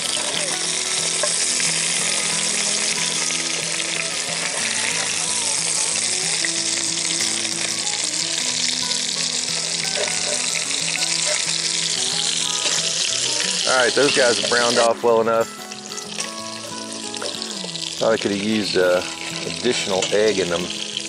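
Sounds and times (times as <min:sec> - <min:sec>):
meat patties sizzling in grease: 0:00.0 - 0:21.0
soft background music: 0:00.0 - 0:21.0.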